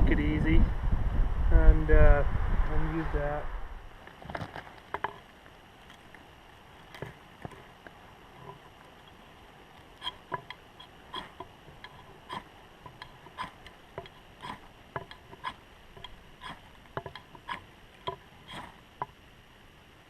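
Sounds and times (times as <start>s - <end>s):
fire steel scraping: 2.6s - 19.1s.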